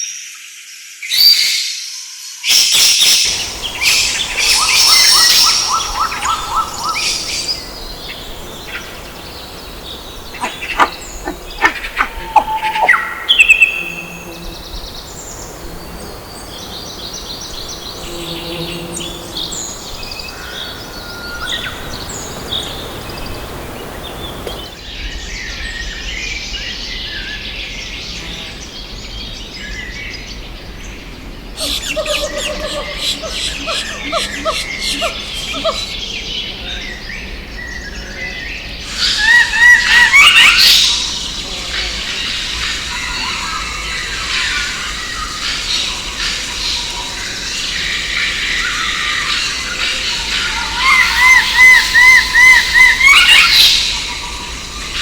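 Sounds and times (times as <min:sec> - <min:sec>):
birds chirping and calling: 0:02.5 - 0:24.8, 0:31.4 - 0:55.0.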